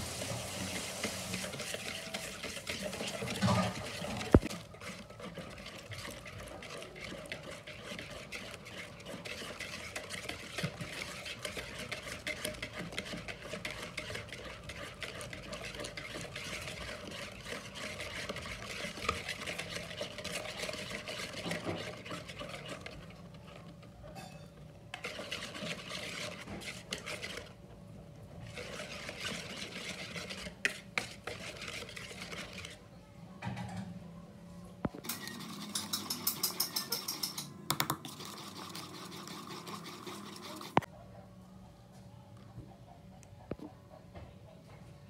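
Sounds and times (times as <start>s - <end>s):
whisk beating batter in a bowl: 0.0s - 32.8s, 34.9s - 40.9s.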